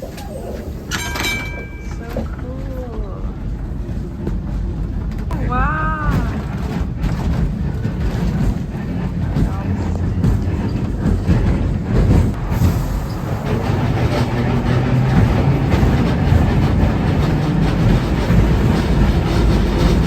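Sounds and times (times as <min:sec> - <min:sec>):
steel wheels clattering: 0:00.0 - 0:20.0
streetcar rumbling on rails: 0:00.0 - 0:20.0.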